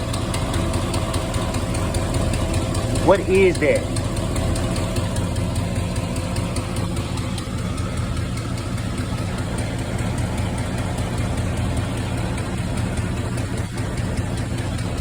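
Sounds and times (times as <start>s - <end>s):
car engine idling with ticking: 0.0s - 15.0s.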